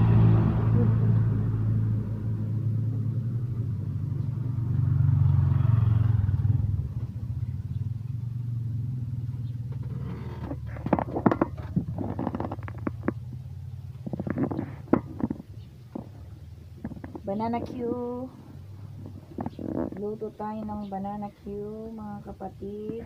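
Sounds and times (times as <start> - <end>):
motorcycle engine humming: 0.0 - 23.0.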